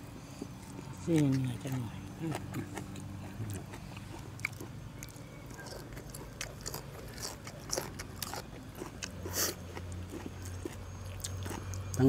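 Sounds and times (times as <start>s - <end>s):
person chewing crisp vegetables: 0.0s - 12.0s.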